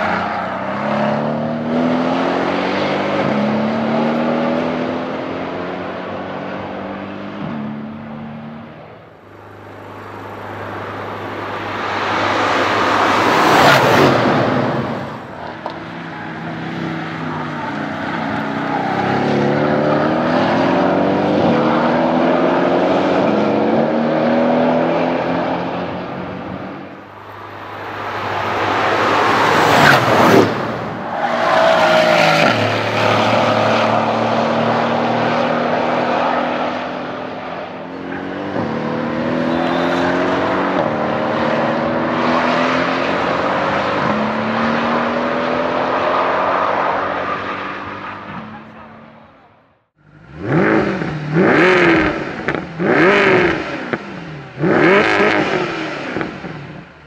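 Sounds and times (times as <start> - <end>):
cars accelerating past: 0.0 - 57.0.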